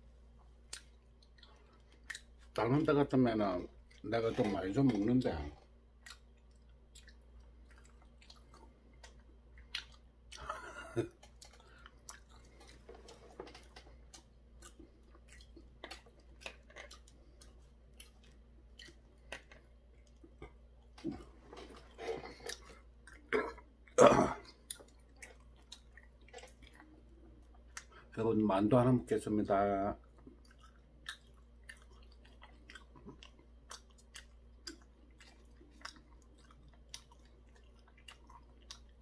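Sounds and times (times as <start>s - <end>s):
person chewing crunchy food: 0.6s - 2.9s, 3.5s - 28.2s, 30.0s - 39.0s.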